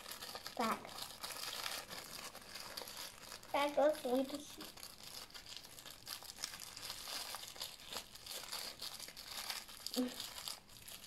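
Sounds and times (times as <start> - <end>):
plastic cup crinkling: 0.0 - 11.0.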